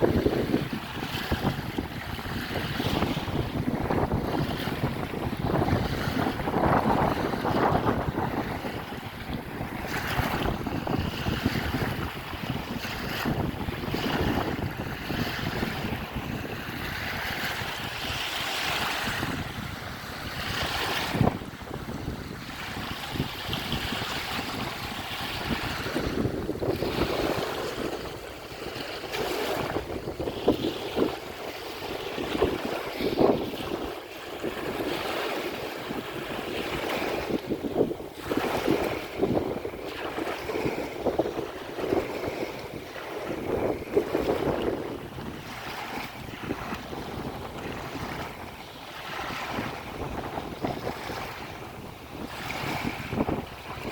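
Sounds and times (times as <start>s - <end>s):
waves breaking on shore: 0.0s - 53.9s
wind buffeting microphone: 0.0s - 53.9s.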